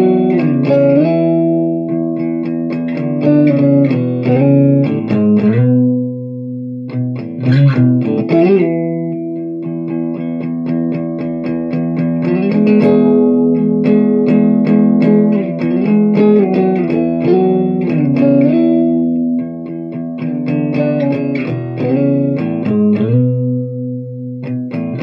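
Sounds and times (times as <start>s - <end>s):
electric guitar: 0.0s - 25.0s.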